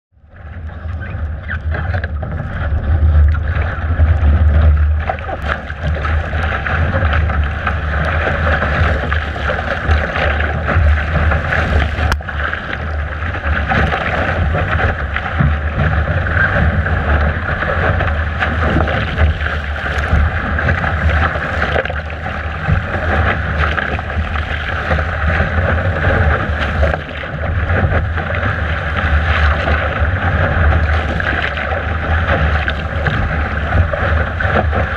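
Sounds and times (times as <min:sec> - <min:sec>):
water rushing along boat hull: 0:00.2 - 0:34.9
wind buffeting microphone: 0:00.3 - 0:34.9.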